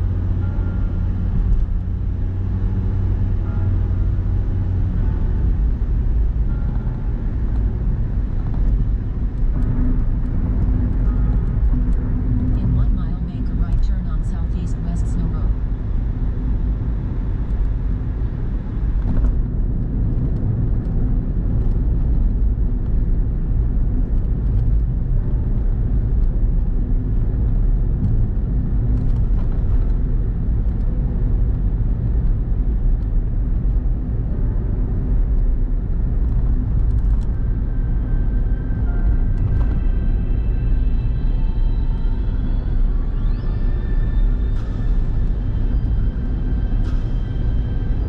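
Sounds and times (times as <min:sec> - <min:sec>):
car driving heard from cabin: 0:00.0 - 0:48.0.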